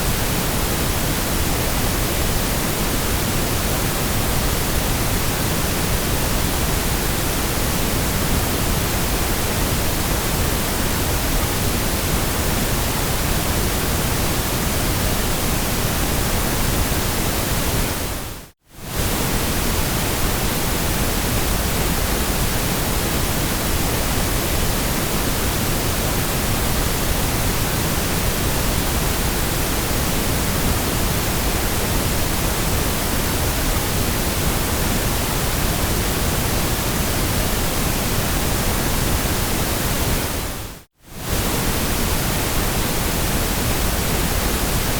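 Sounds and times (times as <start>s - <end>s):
white noise hiss: 0.0s - 44.9s.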